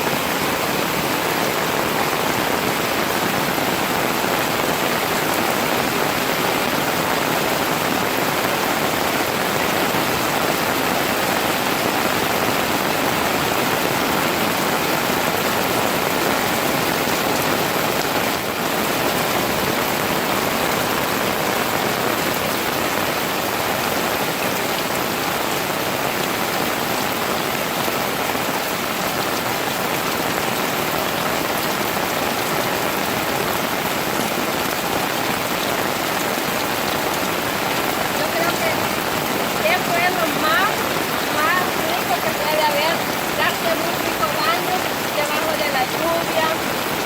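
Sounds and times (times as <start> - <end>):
rain pouring: 0.0 - 47.0.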